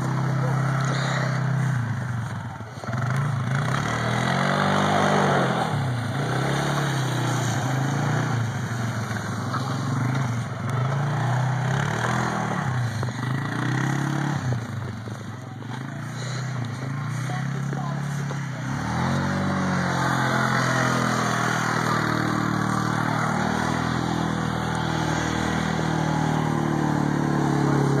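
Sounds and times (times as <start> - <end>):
atv engine revving: 0.0 - 28.0.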